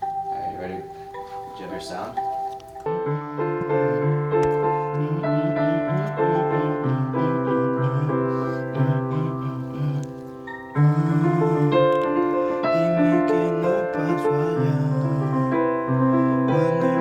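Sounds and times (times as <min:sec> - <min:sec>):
piano playing sustained chords: 0:00.0 - 0:17.0.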